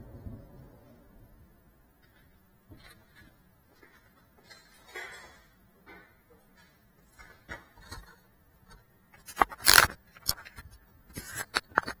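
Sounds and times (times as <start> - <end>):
handling noise on camera: 2.0 - 12.0.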